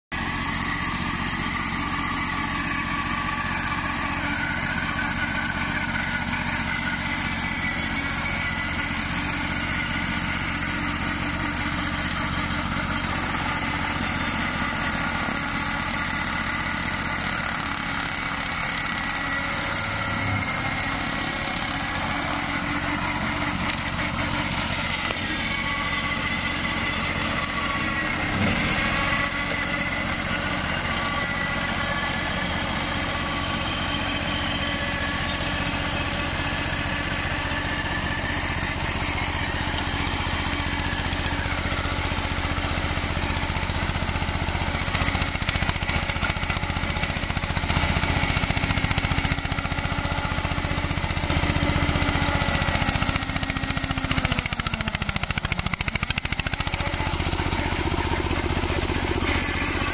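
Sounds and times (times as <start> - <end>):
small tractor engine running: 0.1 - 59.9
cutter mowing through brush: 0.2 - 59.9.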